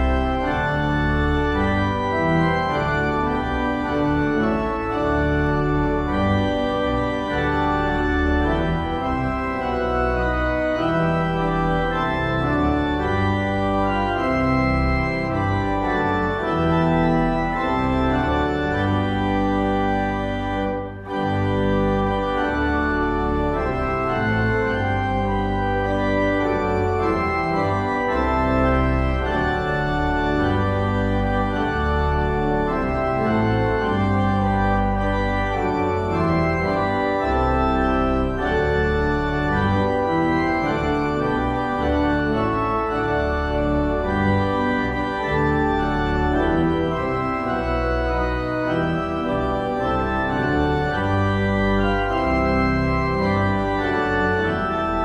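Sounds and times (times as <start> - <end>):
organ playing slow chords: 0.0 - 55.0.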